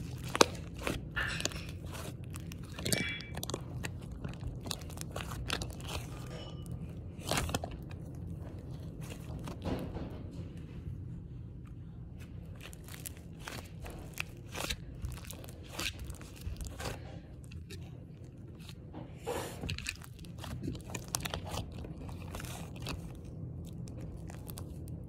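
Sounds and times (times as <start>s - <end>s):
slime squished by hand: 0.0s - 10.1s, 12.2s - 25.0s.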